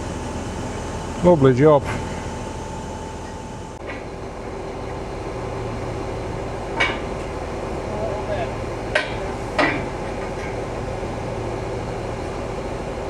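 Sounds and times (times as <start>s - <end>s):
crane machinery rumbling: 0.0s - 13.0s.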